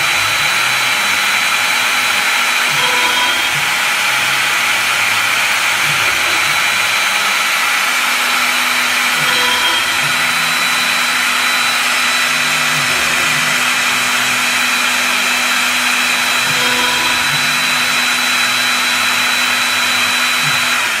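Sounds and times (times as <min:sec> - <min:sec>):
cnc router whirring: 0:00.0 - 0:21.0
high whine: 0:00.0 - 0:21.0.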